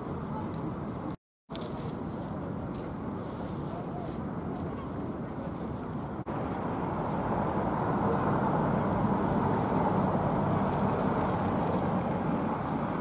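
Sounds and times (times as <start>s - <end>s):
city traffic: 0.0s - 13.0s.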